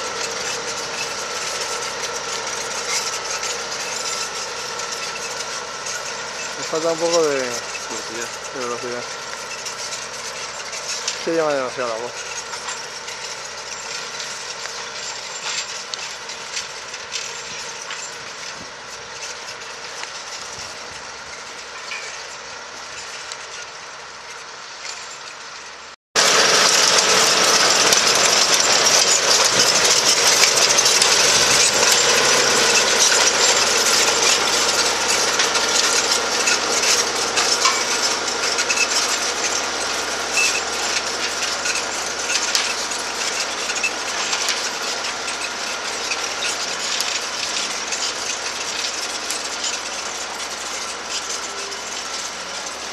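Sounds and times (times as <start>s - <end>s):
plough rattling: 0.0s - 25.4s, 26.2s - 52.9s
tines dragging through earth: 0.0s - 52.9s
tractor engine under load: 0.0s - 52.9s.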